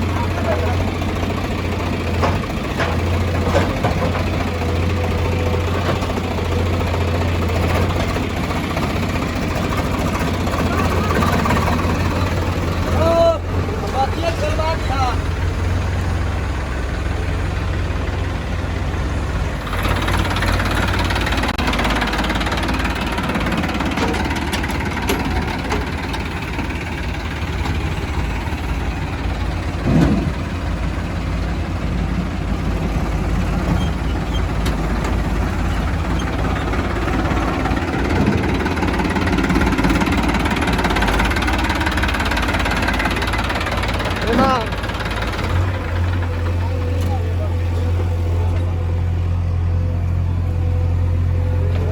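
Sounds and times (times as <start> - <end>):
heavy machinery diesel engine: 0.0 - 51.9.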